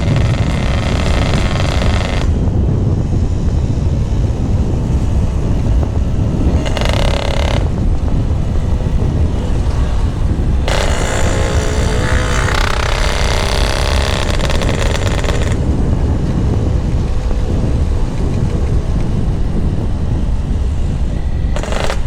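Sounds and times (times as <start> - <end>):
constant low rumble: 0.0 - 22.0
two-stroke motorcycle exhaust: 0.0 - 22.0.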